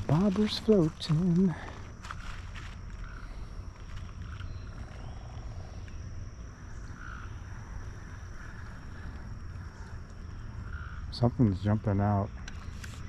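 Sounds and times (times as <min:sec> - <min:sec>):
low steady rumble: 0:00.0 - 0:12.8
high insect tone: 0:00.0 - 0:13.0.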